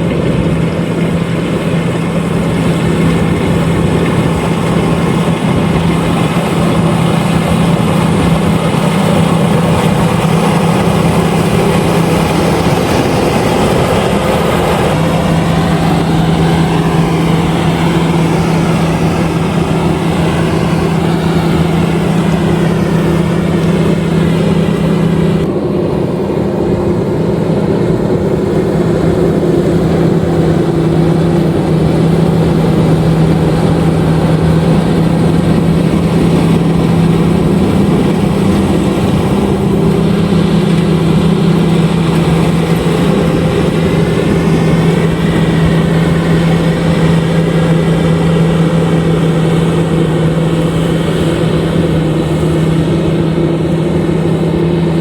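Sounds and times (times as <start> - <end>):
combine harvester engine drone: 0.0 - 55.0
wavering whine: 0.0 - 55.0.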